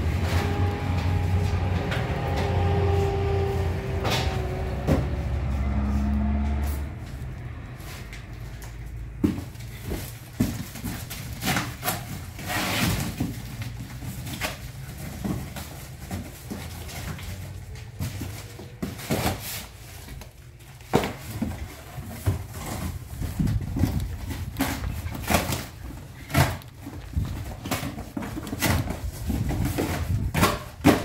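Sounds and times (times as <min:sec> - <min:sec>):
cardboard boxes rustling and knocking: 0:00.0 - 0:31.0.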